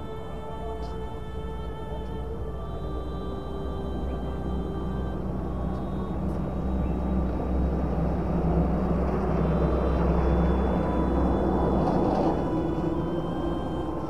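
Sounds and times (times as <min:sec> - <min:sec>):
ambient drone music: 0:00.0 - 0:14.0.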